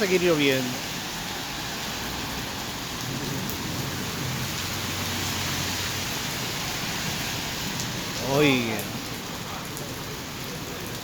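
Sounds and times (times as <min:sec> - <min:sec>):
heavy rain splashing on street: 0:00.0 - 0:11.0.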